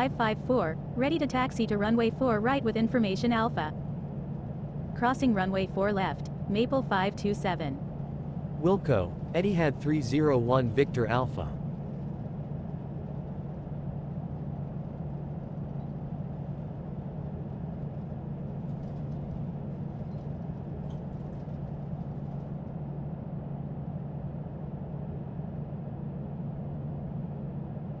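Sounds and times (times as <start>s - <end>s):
cockpit drone and hiss: 0.0s - 28.0s
even hum: 0.0s - 28.0s.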